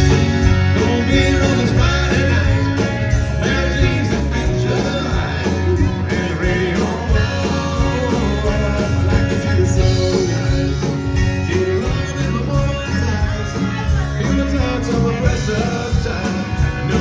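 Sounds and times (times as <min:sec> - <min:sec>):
country-rock band playing: 0:00.0 - 0:17.0.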